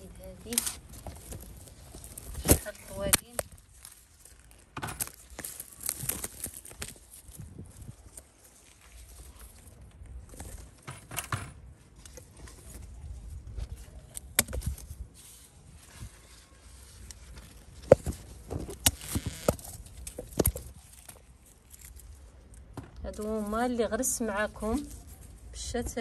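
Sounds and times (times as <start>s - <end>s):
leaves and stems rustling: 0.0s - 10.8s, 11.8s - 26.0s.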